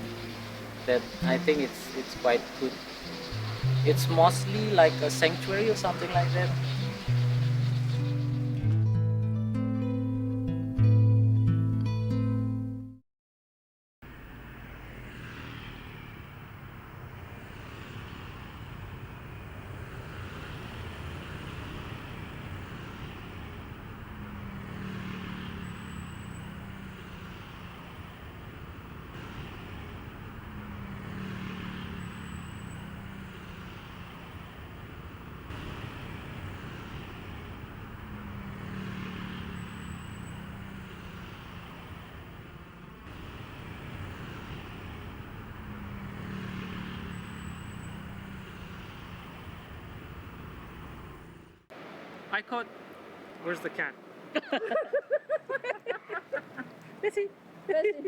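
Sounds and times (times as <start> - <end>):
vehicle passing by: 0.0 - 9.0, 14.0 - 58.0
road traffic noise: 0.0 - 10.0, 14.0 - 58.0.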